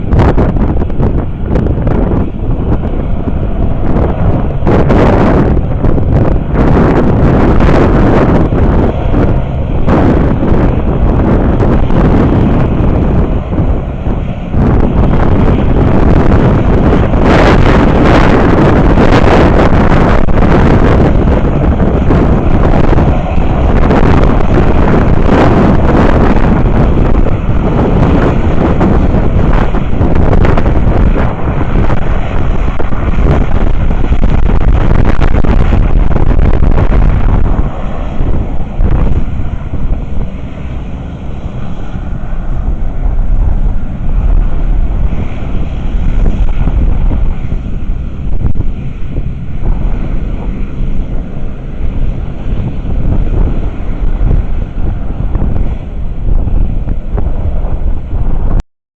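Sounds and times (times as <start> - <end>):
wind buffeting microphone: 0.0 - 58.6.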